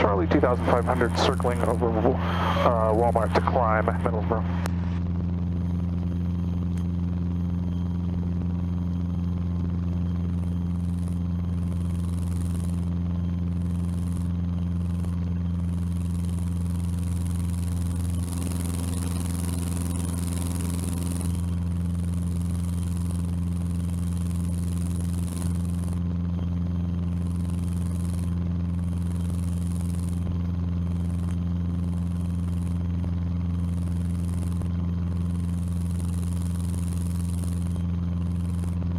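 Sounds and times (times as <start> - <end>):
airplane engine drone in cabin: 0.0 - 38.9.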